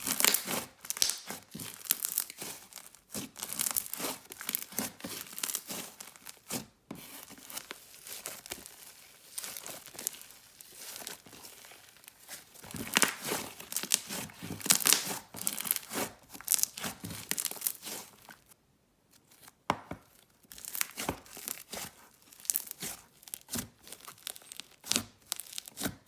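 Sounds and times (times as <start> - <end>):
slime crackling and popping: 0.0 - 6.5, 7.4 - 18.5, 20.0 - 26.0.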